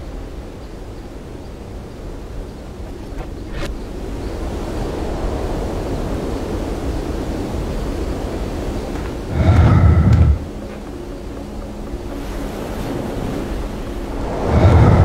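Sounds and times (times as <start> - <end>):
wind and surf rushing: 0.0 - 15.0.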